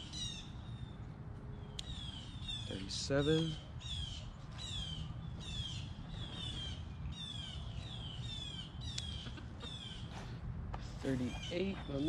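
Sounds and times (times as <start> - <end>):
songbird calling: 0.0 - 12.0.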